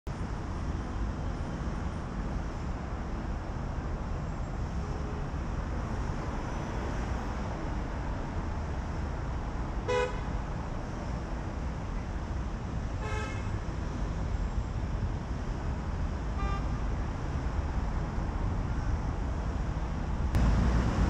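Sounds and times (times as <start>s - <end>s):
city road traffic: 0.1s - 21.0s.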